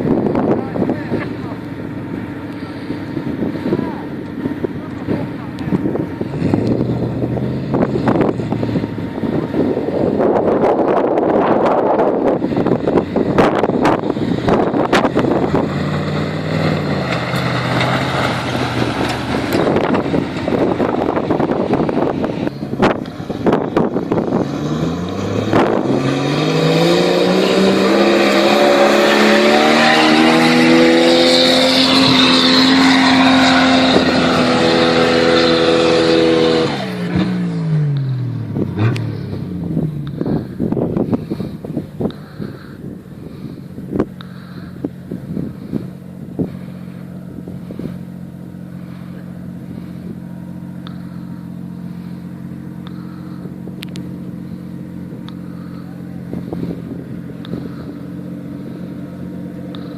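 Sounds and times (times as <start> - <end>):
wind buffeting microphone: 0.0 - 27.7, 29.2 - 48.5, 56.2 - 58.3
engine running hard: 0.0 - 59.9.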